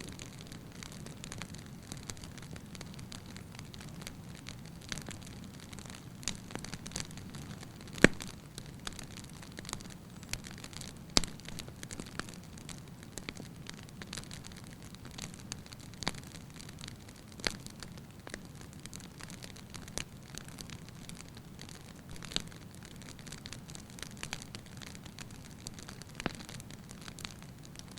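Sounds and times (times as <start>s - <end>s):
logs crackling and popping: 0.0s - 27.9s.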